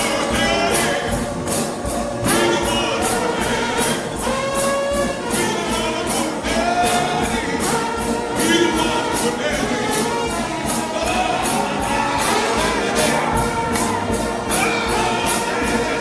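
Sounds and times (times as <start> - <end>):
brass band playing gospel music: 0.0 - 16.0
drum and cymbal beat: 0.0 - 16.0.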